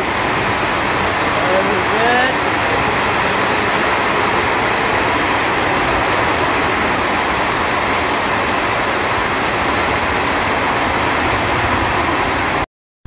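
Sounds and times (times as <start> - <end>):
heavy rain pouring: 0.0 - 12.7.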